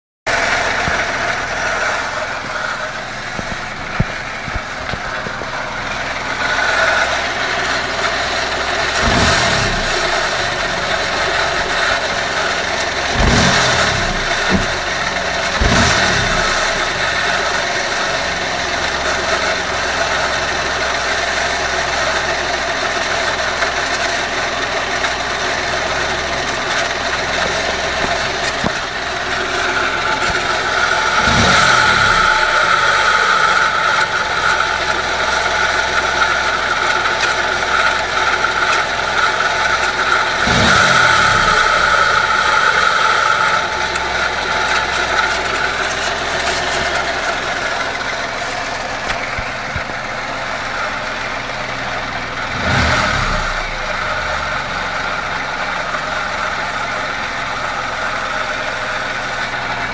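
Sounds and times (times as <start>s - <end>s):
car engine running: 0.3s - 59.9s
water pump whine: 0.3s - 59.9s.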